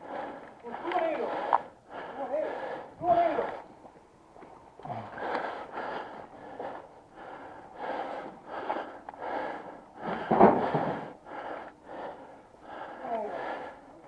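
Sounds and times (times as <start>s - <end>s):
person breathing heavily: 0.0s - 3.7s, 4.8s - 14.0s.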